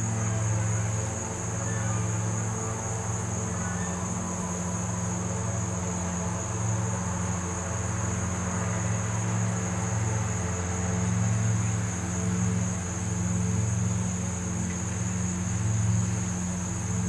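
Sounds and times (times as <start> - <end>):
insect chorus buzzing: 0.0 - 17.0
low steady hum: 0.0 - 17.0.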